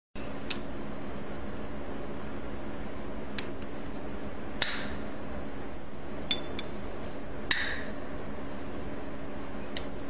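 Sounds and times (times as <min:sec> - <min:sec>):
steady low hum: 0:00.2 - 0:10.0.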